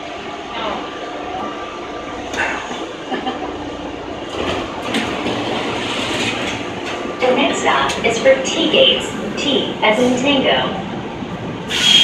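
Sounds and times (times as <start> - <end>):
train rumble and hiss: 0.0 - 12.0.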